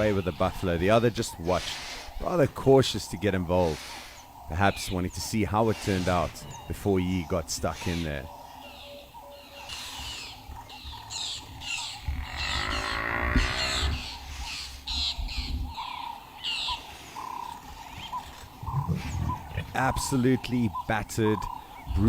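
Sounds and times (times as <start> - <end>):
birds harsh squawks: 0.0 - 22.0
deep drawn-out animal call: 0.0 - 22.0.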